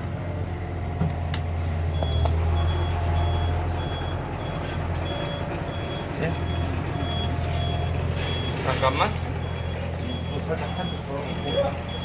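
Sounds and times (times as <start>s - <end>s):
low engine hum: 0.0s - 12.0s
reversing alarm beeping: 1.9s - 12.0s.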